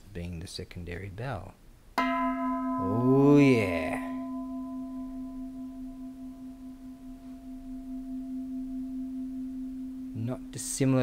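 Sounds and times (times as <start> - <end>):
temple bell ringing: 2.0 - 11.0.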